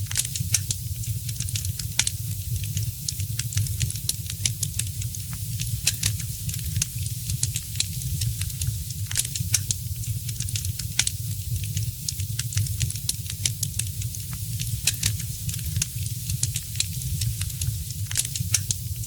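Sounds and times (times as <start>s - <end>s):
fireplace fire crackling: 0.0s - 19.0s.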